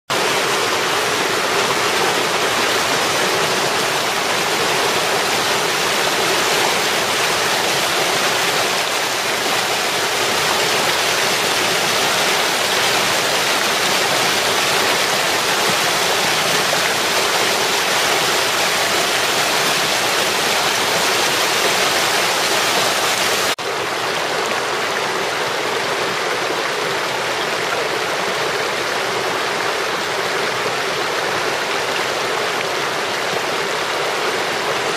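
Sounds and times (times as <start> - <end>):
stream rushing over stones: 0.1 - 34.9.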